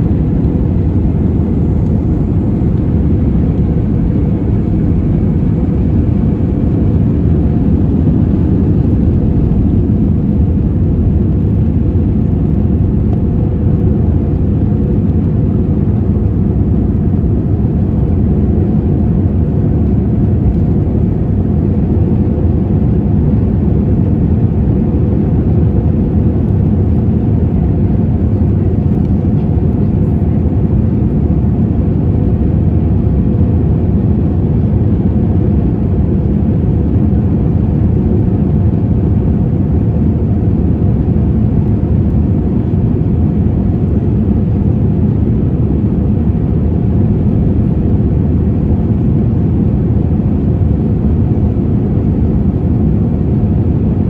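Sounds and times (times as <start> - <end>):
airliner cabin engine roar: 0.0 - 54.0.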